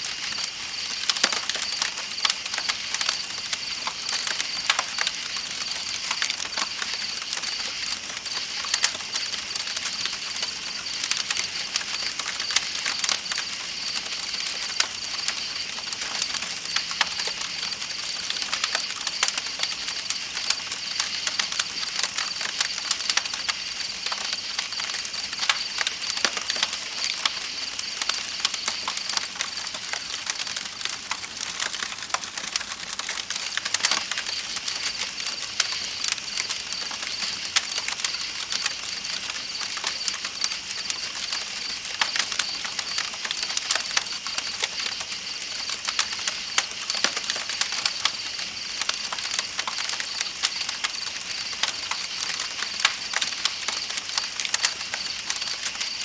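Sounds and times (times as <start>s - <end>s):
campfire crackling and popping: 0.0s - 56.0s
night insects chirping: 0.0s - 56.0s.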